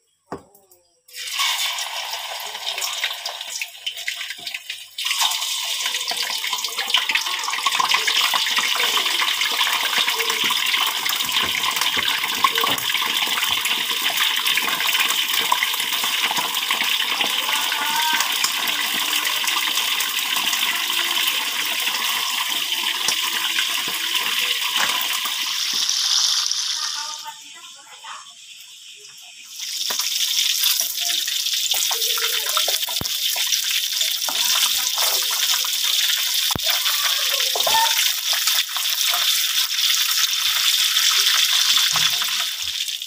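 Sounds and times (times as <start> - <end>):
food sizzling in a wok: 1.0 - 43.0.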